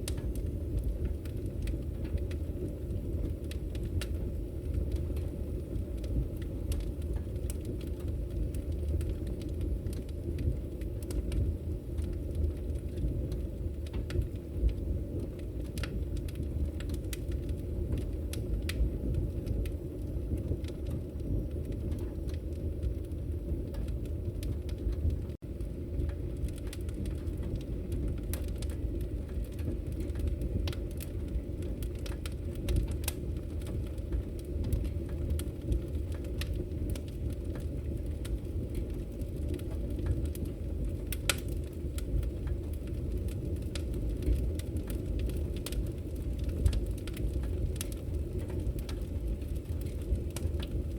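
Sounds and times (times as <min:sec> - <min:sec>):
fire crackling and popping: 0:00.0 - 0:50.9
fire rumbling: 0:00.0 - 0:50.9.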